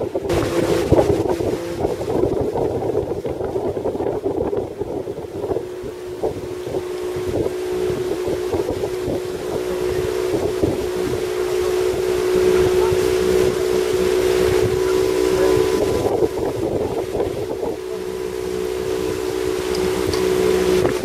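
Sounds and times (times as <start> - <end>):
boat motor droning: 0.0 - 21.0
wind buffeting microphone: 0.0 - 21.0.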